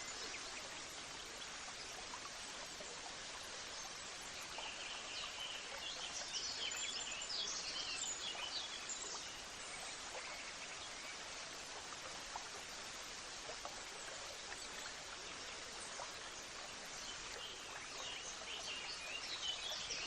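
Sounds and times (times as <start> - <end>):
steady rushing water: 0.0 - 20.0.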